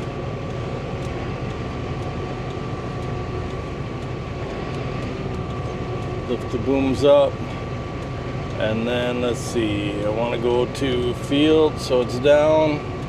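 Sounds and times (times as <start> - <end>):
sprayer engine running: 0.0 - 13.0
thin steady high whine: 0.0 - 13.0.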